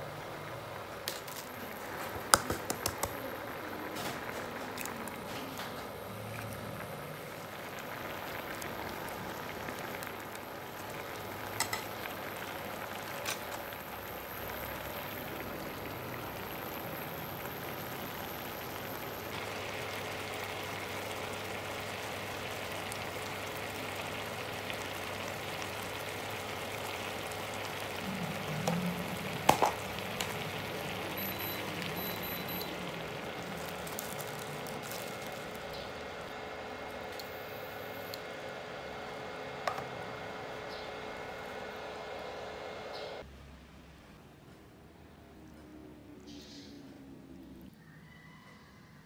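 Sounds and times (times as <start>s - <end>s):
stew bubbling and sizzling: 0.0s - 43.3s.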